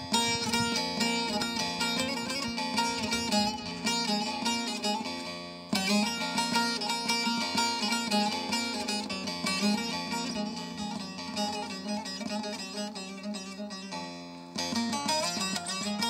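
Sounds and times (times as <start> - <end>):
long-necked lute plucked notes: 0.0 - 16.0.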